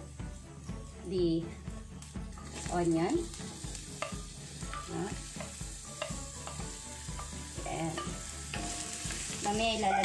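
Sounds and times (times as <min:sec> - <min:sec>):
onion and garlic sizzling in pan: 0:00.0 - 0:10.0.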